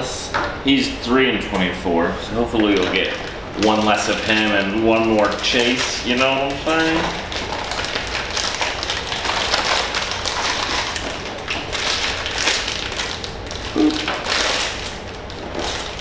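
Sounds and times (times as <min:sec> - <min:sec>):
cardboard packaging crinkling: 0:02.7 - 0:16.0.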